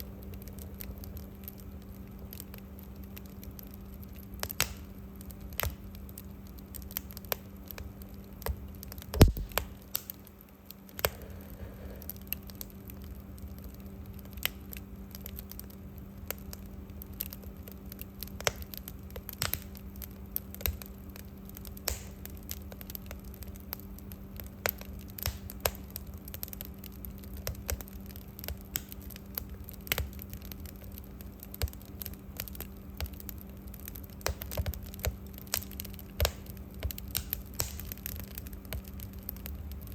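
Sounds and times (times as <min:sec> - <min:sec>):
steady low hum: 0:00.0 - 0:39.9
wood fire crackling: 0:00.0 - 0:39.9.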